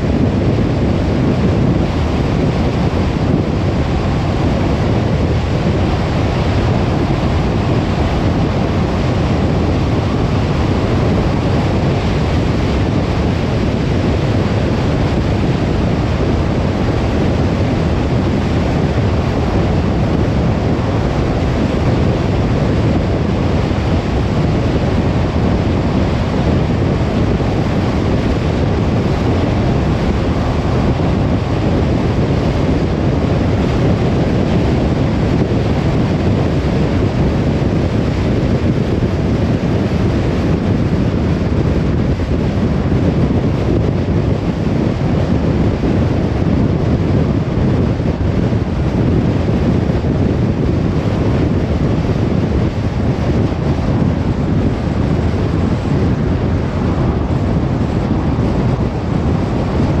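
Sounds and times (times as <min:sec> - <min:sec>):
car road rumble: 0:00.0 - 1:00.0.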